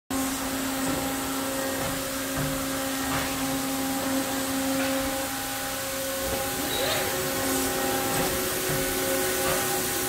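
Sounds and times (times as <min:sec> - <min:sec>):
low machine hum: 0:00.1 - 0:10.0
machinery motors and blowers hissing: 0:00.1 - 0:10.0.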